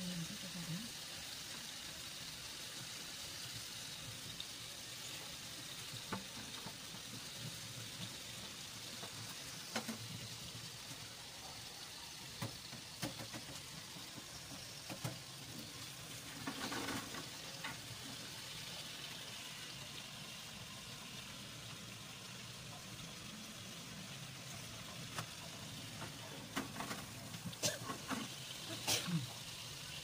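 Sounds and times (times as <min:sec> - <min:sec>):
sausages sizzling in oil: 0:00.0 - 0:30.0.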